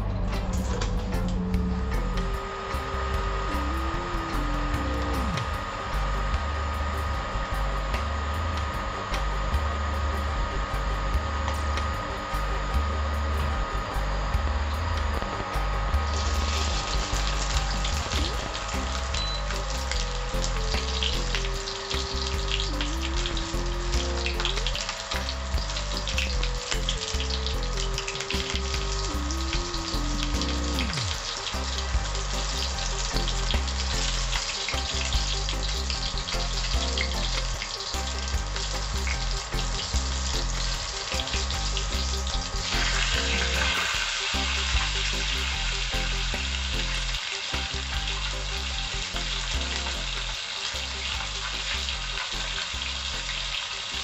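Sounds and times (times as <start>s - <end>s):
fish sizzling in hot oil: 1.2s - 54.0s.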